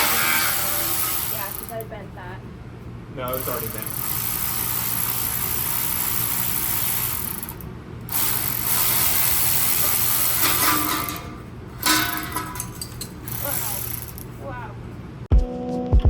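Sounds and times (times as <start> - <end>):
handheld power tool running: 0.0 - 1.9, 3.3 - 14.5.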